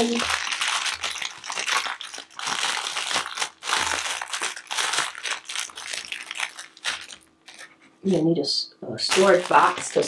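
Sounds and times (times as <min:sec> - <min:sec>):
plastic bag crinkling: 0:00.0 - 0:08.2, 0:09.0 - 0:10.0.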